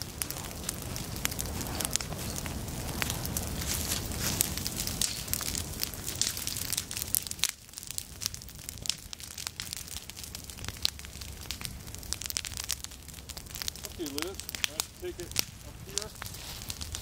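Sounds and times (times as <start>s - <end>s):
grass fire crackling: 0.0s - 17.0s.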